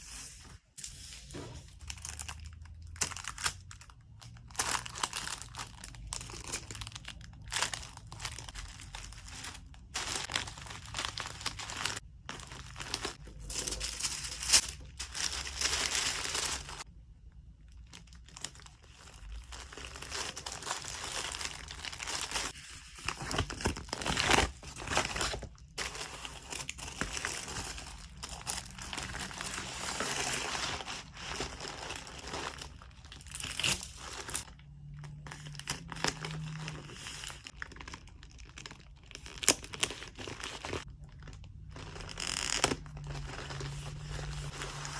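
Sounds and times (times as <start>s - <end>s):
packaging crinkling and rustling: 1.0s - 16.9s, 17.7s - 44.9s.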